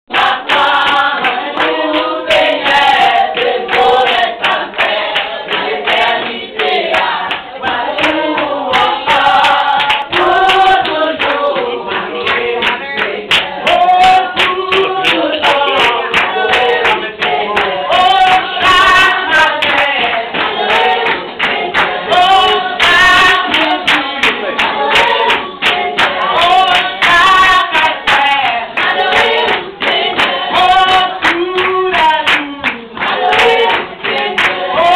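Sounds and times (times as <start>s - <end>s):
congregation singing: 0.1s - 34.9s
rhythmic hand clapping: 0.1s - 34.9s.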